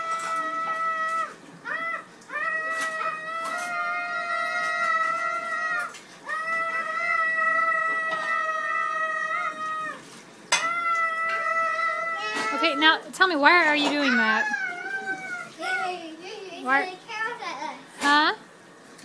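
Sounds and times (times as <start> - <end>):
children screaming: 0.0 - 13.1, 13.9 - 16.0.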